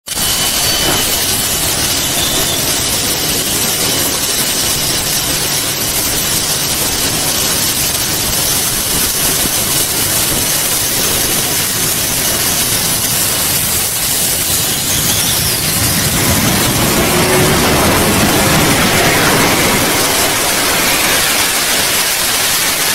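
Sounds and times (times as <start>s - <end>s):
jet engine roaring: 0.1s - 22.9s.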